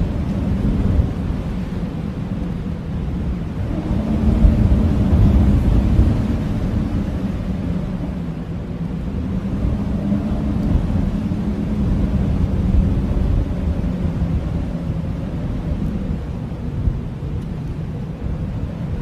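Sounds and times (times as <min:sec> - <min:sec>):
blizzard wind howling: 0:00.0 - 0:19.0.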